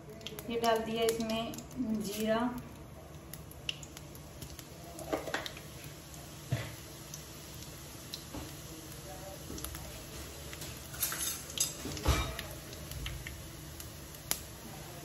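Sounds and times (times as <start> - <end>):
seeds sizzling in oil: 0.0 - 15.0.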